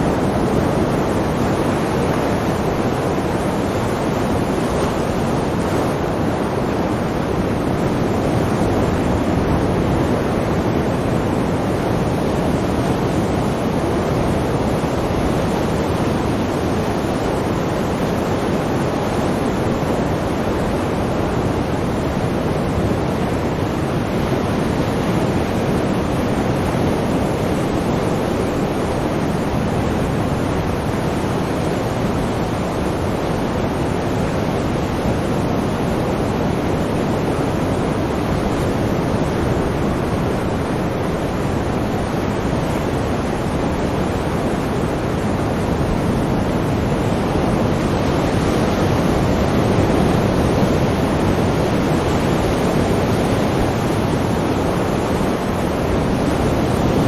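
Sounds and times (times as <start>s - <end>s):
sea waves and surf: 0.0s - 57.0s.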